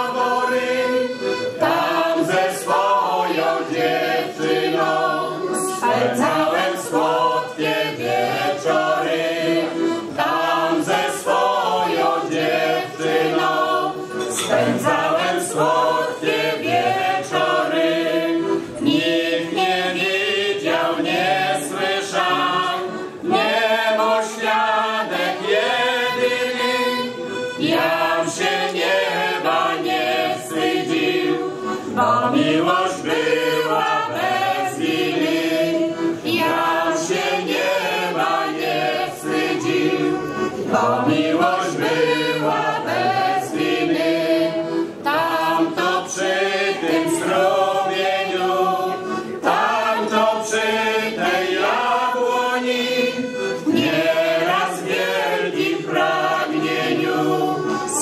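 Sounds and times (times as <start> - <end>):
mixed choir singing folk song: 0.0 - 58.0.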